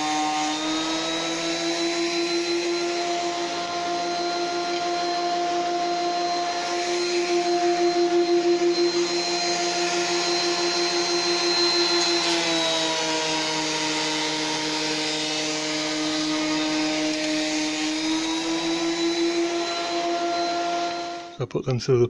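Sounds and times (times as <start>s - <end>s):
wood cutting hiss: 0.0s - 21.3s
thickness planer running: 0.0s - 21.4s.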